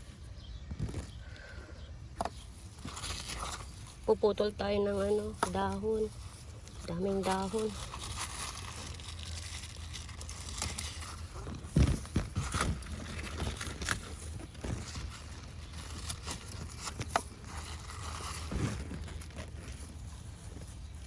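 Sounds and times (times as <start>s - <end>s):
leaves rustling and snapping: 2.2s - 21.0s.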